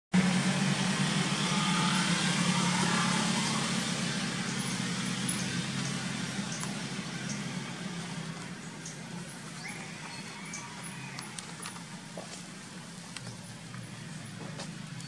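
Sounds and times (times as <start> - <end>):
engine hum: 0.1 - 15.0.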